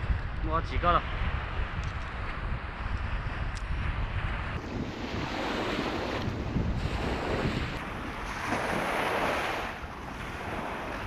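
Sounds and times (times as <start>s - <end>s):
surf washing on shore: 0.0s - 11.0s
wind buffeting microphone: 0.0s - 11.0s.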